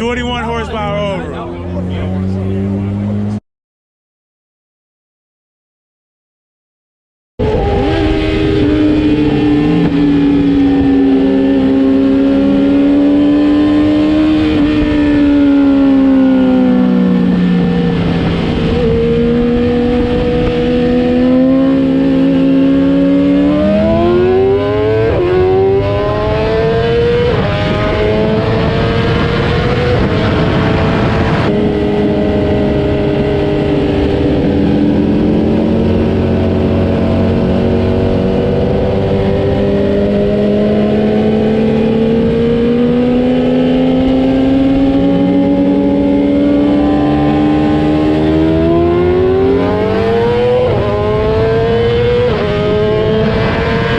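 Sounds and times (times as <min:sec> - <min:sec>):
vehicle engine revving under load: 0:00.0 - 0:03.4, 0:07.4 - 0:53.9.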